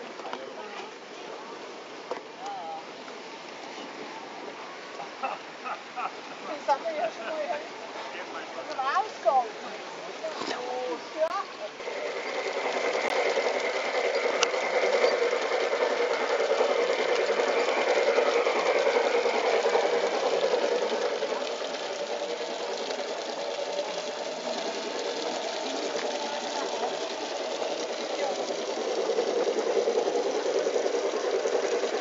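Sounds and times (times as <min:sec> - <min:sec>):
model locomotive motor whirring: 0:00.0 - 0:32.0.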